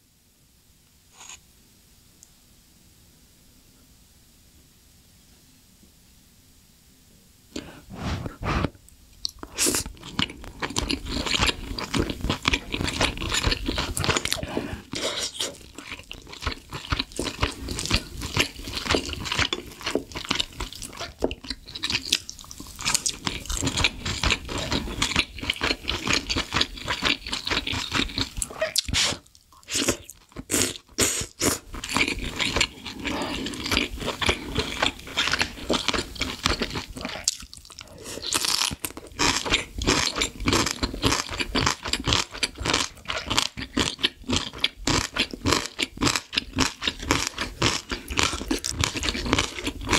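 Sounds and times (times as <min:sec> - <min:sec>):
chewing food: 0:09.2 - 0:49.9.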